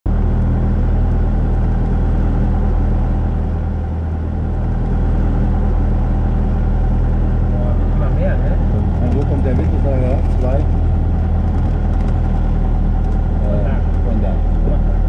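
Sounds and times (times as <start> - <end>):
light aircraft engine droning: 0.1 - 15.0.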